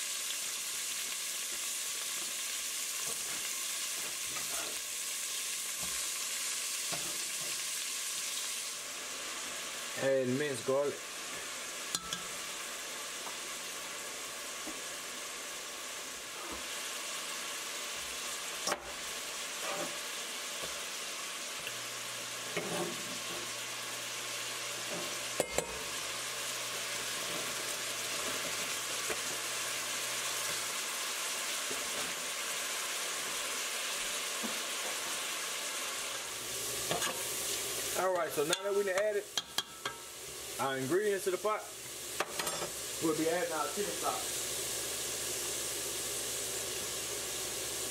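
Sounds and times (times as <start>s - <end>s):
vegetables sizzling in oil: 0.0s - 47.9s.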